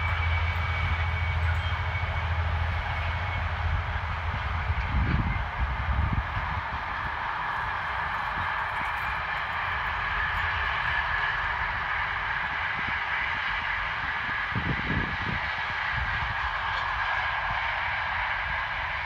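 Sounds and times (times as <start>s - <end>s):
freight train wheels rolling: 0.0s - 19.0s.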